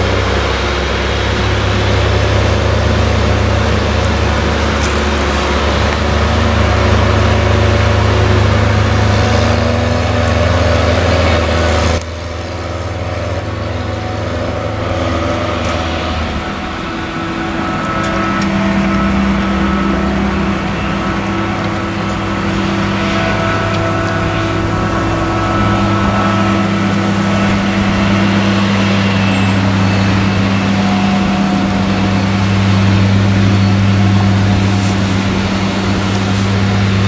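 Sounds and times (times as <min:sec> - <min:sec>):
harvester heavy drone: 0:00.0 - 0:37.0.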